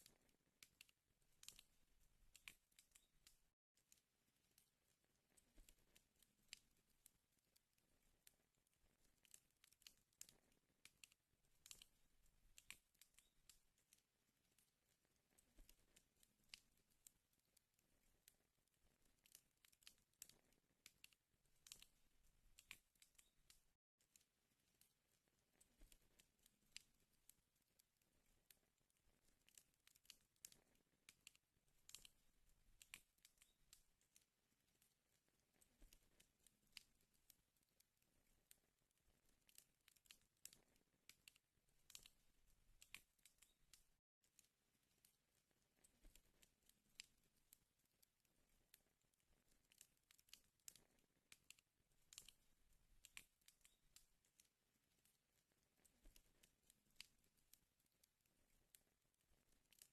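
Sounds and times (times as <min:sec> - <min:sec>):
wood fire crackling: 0:00.0 - 0:44.0, 0:44.8 - 0:47.4, 0:48.3 - 0:59.9.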